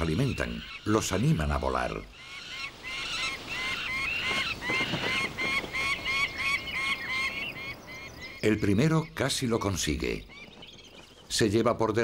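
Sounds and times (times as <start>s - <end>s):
young falcons calling: 0.0s - 12.0s.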